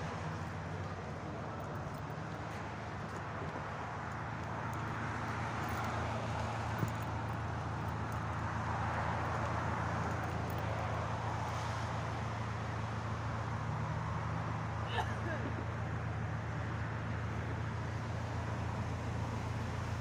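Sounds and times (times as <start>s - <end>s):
low engine hum: 0.0s - 20.0s
road and wind rush: 0.0s - 20.0s.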